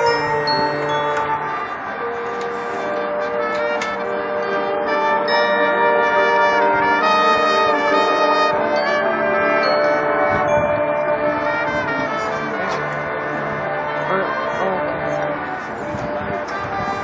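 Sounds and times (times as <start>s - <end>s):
marching band brass chords: 0.0s - 17.0s.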